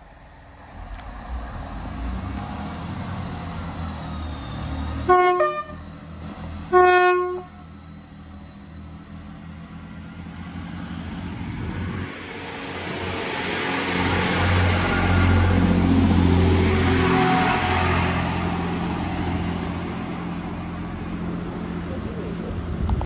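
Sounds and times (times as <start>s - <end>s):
diesel engines drumming: 0.0s - 23.0s.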